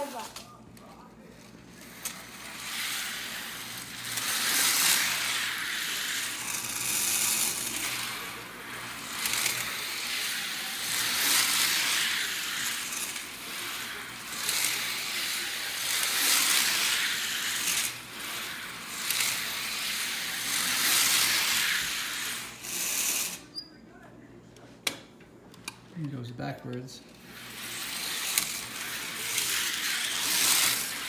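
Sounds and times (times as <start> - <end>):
small electric motors whirring: 1.4 - 23.5, 27.1 - 31.0.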